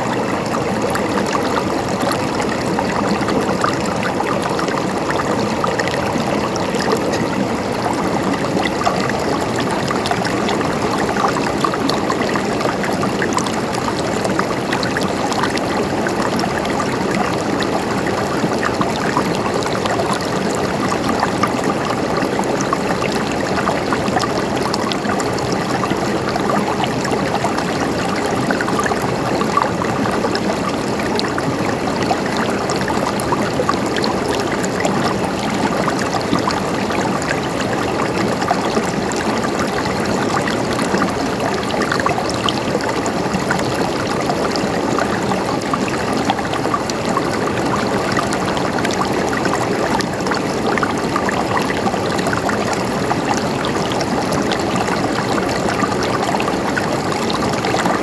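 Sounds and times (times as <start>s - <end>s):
water gurgling: 0.0s - 58.0s.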